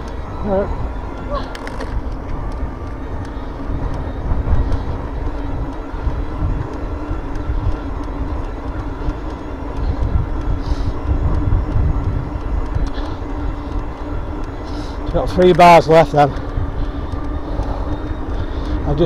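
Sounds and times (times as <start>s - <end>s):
electric bike motor hum: 0.0s - 19.0s
tyres on tarmac: 0.0s - 19.0s
wind buffeting microphone: 0.0s - 19.0s.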